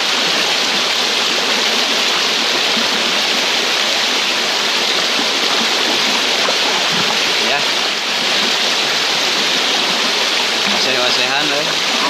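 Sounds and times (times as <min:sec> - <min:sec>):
river water rushing over stones: 0:00.0 - 0:12.0.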